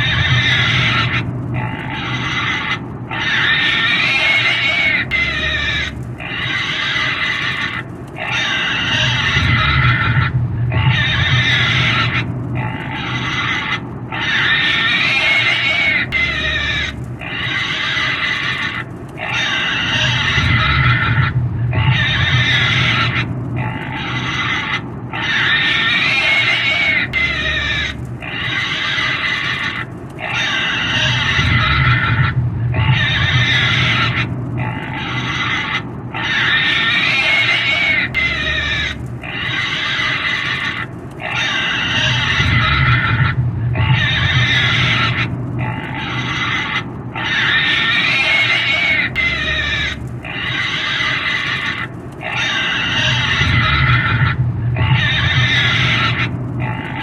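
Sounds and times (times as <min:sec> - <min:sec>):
pig squealing: 0:00.0 - 0:57.0.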